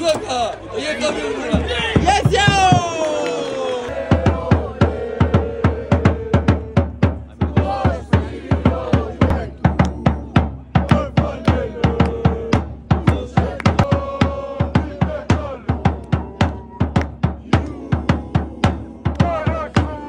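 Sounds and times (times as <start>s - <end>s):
marching drum beating: 1.5s - 3.2s, 4.0s - 20.0s.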